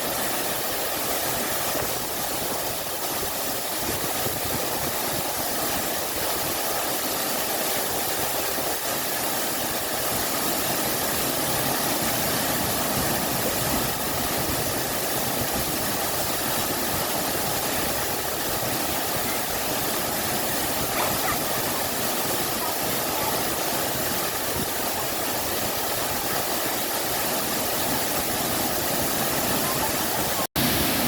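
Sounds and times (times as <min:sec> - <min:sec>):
waterfall and stream roaring: 0:00.0 - 0:31.0.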